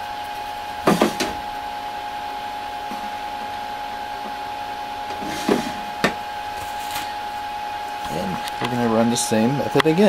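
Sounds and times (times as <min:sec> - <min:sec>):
lab equipment fan hum: 0:00.0 - 0:10.0
steady high tone: 0:01.4 - 0:10.0.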